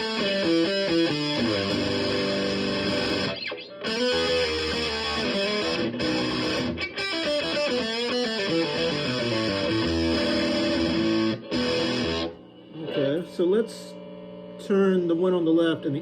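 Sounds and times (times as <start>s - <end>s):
fuzz electric guitar chords: 0.0s - 14.6s.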